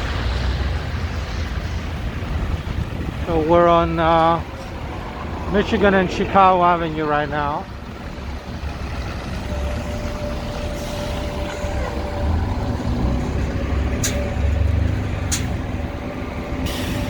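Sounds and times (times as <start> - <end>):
heavy vehicles rumbling past: 0.0 - 17.0.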